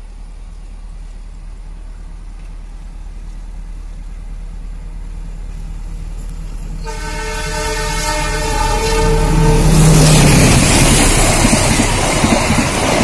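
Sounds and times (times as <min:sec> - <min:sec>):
locomotive engine rumble: 0:00.0 - 0:13.0.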